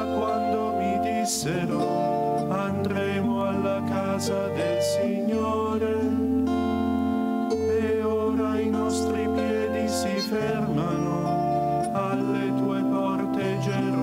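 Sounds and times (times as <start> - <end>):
men singing a psalm: 0.0 - 6.4, 7.5 - 14.0
instrumental accompaniment: 0.0 - 14.0.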